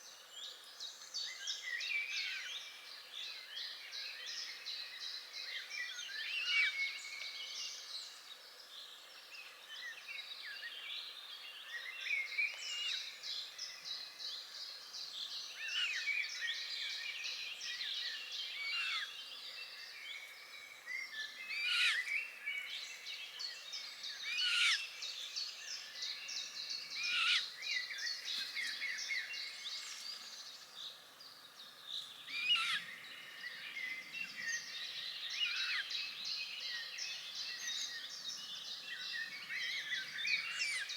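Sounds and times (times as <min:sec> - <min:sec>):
songbirds chorus: 0:00.0 - 0:40.9.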